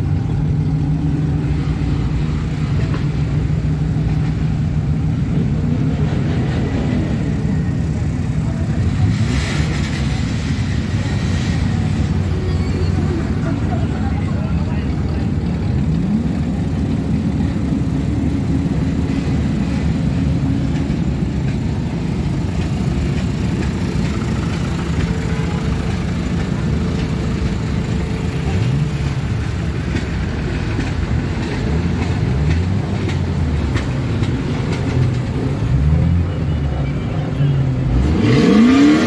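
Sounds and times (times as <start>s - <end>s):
engines idling: 0.0s - 39.0s
engines revving: 0.0s - 39.0s.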